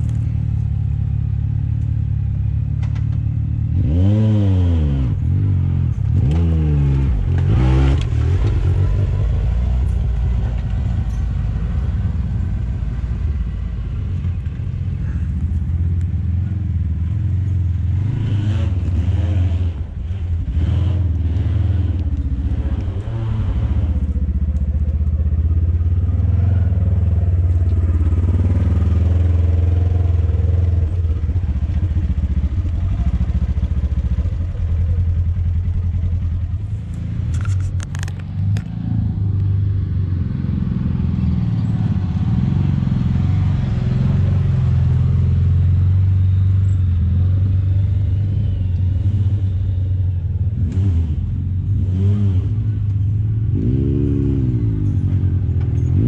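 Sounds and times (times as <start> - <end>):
utv engines droning: 0.0 - 56.0.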